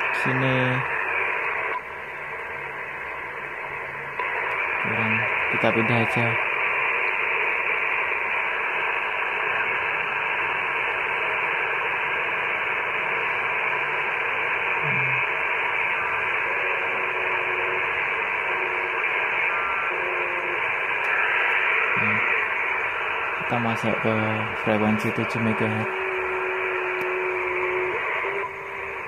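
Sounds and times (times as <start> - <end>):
radio static hiss: 0.0 - 29.0
faint short radio tones: 4.2 - 29.0.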